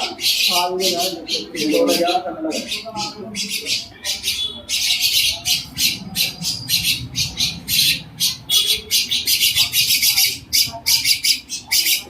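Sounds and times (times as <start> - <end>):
bird squawking: 0.0 - 12.0.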